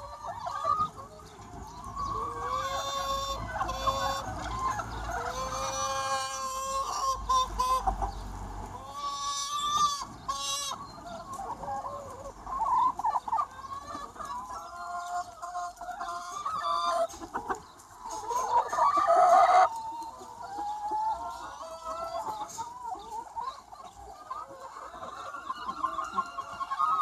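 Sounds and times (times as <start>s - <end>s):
drawn-out hen call: 0.0s - 27.0s
hens clucking: 0.0s - 27.0s.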